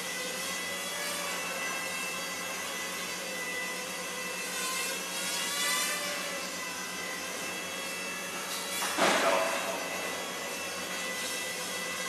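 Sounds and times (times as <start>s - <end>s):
mini quadcopter motors whining: 0.0s - 12.0s.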